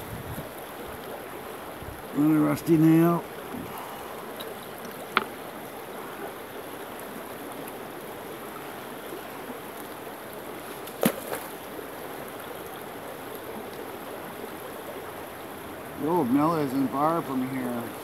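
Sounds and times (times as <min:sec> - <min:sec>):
stream running over rocks: 0:00.0 - 0:18.0.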